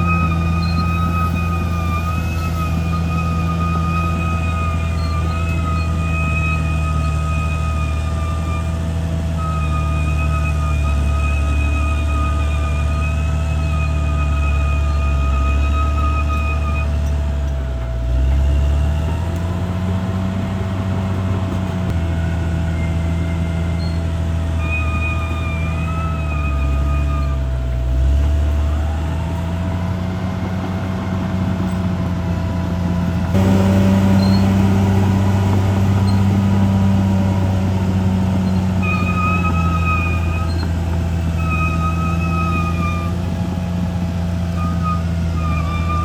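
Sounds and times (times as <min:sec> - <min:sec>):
bulldozer engine under load: 0:00.0 - 0:46.0
thin wavering whine: 0:00.0 - 0:46.0.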